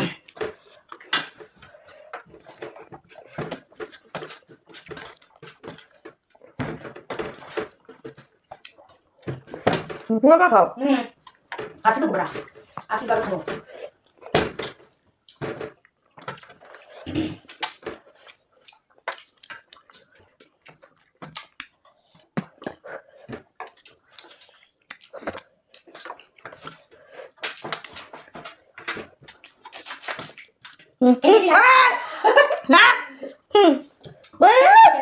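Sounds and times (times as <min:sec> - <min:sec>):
wet chewing and smacking: 0:00.0 - 0:10.1, 0:11.1 - 0:31.0, 0:33.9 - 0:34.4.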